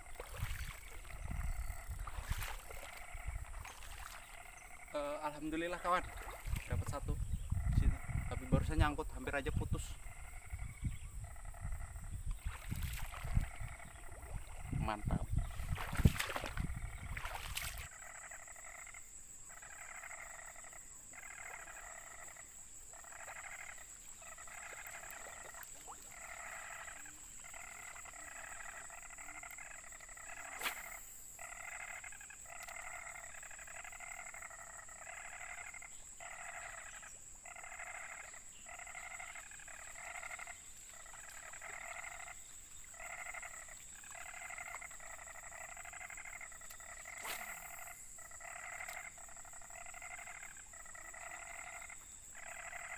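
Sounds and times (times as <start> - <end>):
frogs calling: 0.0 - 52.9.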